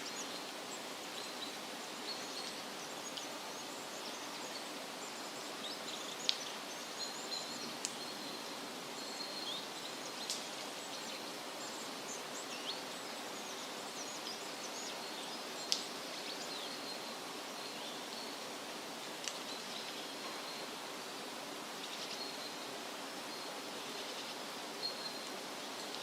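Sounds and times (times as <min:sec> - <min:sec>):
wind through leafy trees: 0:00.0 - 0:26.0.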